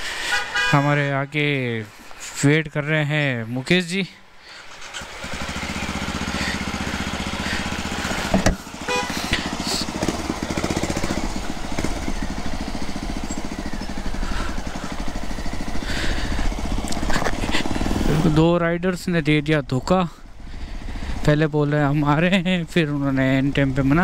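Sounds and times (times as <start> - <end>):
motorcycle engine running: 4.4 - 24.0.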